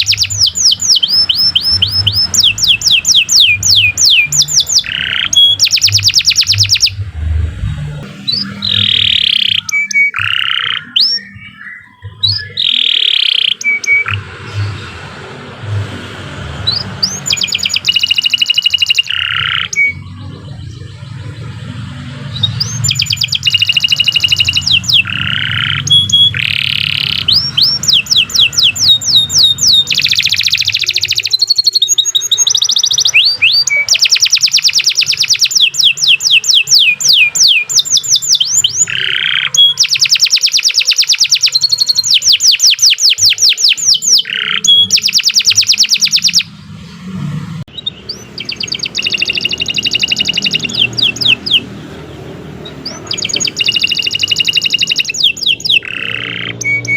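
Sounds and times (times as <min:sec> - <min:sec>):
canary singing trills: 0:00.0 - 0:46.8, 0:47.7 - 0:56.9.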